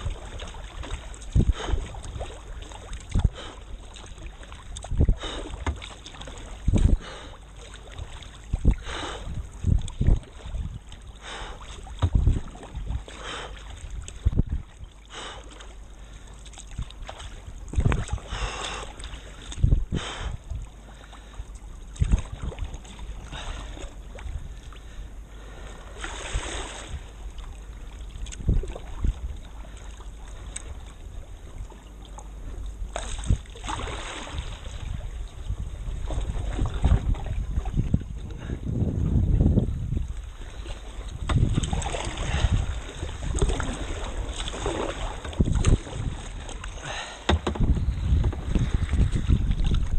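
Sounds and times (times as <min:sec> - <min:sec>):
wind rumble on microphone: 0:00.0 - 0:15.0, 0:16.6 - 0:49.9
water splashing against kayak: 0:00.0 - 0:49.9.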